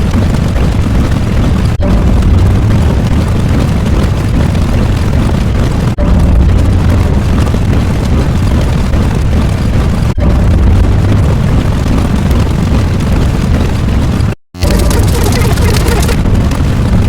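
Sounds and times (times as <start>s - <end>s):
loud continuous rumbling: 0.0s - 17.0s.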